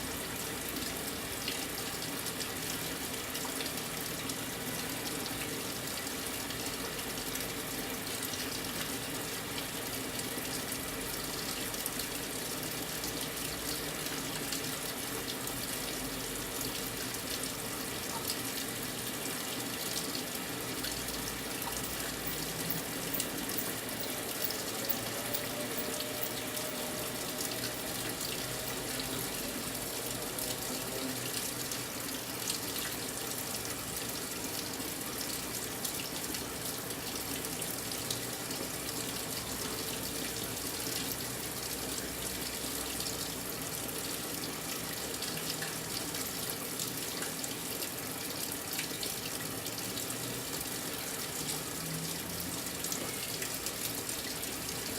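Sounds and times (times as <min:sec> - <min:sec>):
water pouring into washing machine: 0:00.0 - 0:54.9.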